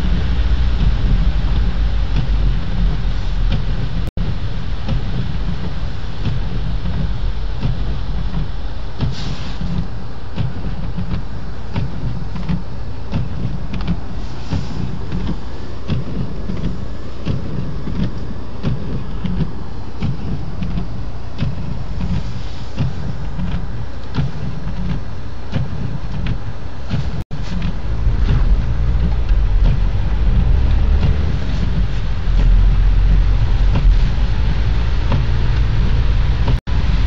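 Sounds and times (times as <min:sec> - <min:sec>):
road and engine rumble in car: 0:00.0 - 0:37.0.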